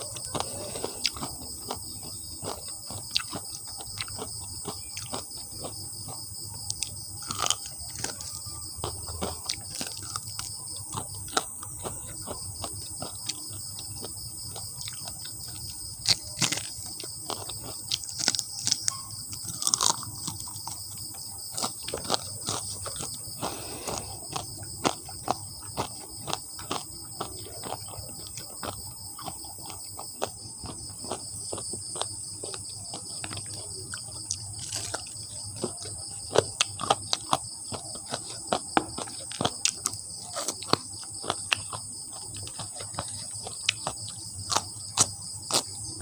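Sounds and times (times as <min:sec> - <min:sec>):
crunching and chewing fried food: 0:00.0 - 0:46.0.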